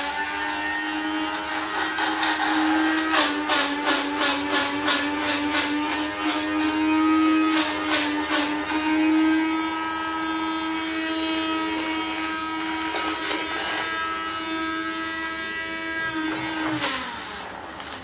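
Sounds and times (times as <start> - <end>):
blender grinding eggshells: 0.0 - 18.0.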